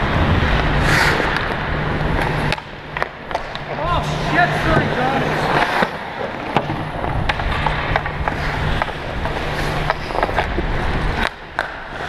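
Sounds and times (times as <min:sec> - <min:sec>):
ice skates scraping on ice: 0:00.0 - 0:12.0
low steady hum: 0:00.0 - 0:12.0
hockey sticks clicking on puck: 0:00.5 - 0:12.0.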